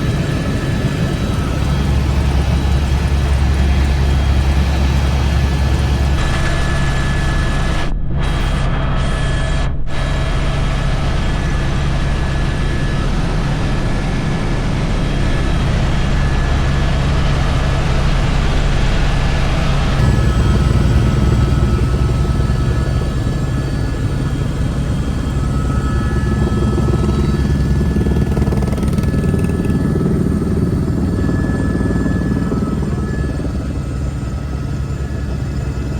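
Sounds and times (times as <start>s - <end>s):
helicopter rotor and engine drone: 0.0s - 35.9s
helicopter whine: 0.0s - 35.9s.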